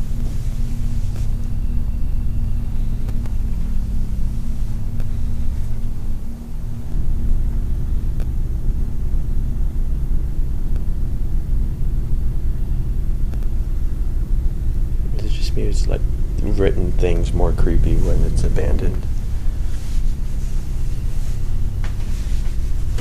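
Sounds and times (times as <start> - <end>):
loud low rumble: 0.0 - 23.0.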